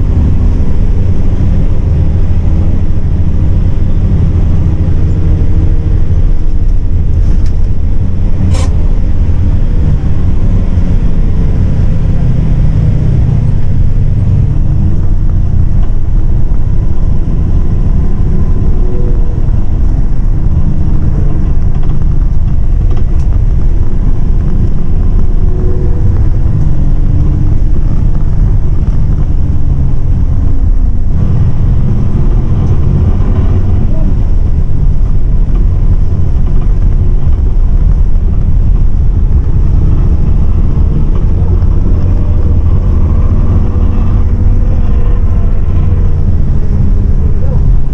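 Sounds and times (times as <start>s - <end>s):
bus diesel engine drone: 0.0s - 47.9s
road noise: 0.0s - 47.9s.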